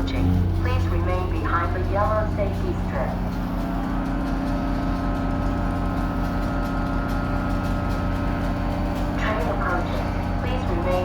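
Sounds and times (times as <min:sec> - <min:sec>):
train locomotive running: 0:00.0 - 0:11.0.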